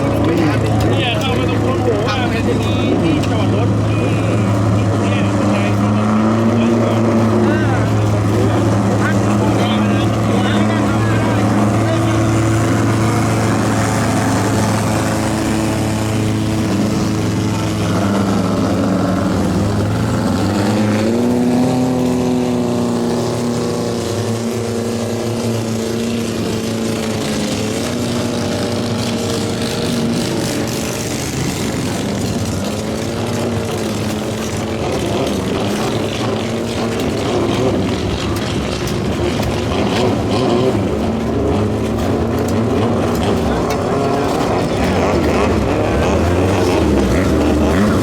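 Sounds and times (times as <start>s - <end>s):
racing boat engines: 0.0s - 48.0s.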